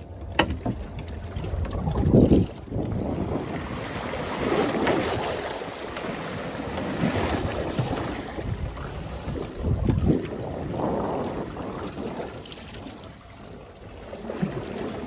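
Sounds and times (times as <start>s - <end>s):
sea water splashing around boat: 0.0s - 15.0s
wind on microphone: 1.0s - 15.0s.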